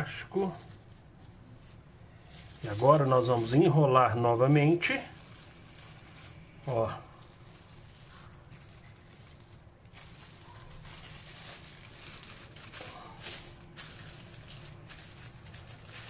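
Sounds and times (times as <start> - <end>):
cling film rustling: 0.0 - 16.0
low steady hum: 0.0 - 16.0.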